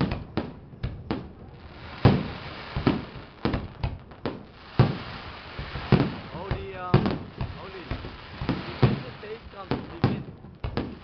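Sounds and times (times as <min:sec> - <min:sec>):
fireworks bursting: 0:00.0 - 0:11.0
steady hiss: 0:01.1 - 0:11.0.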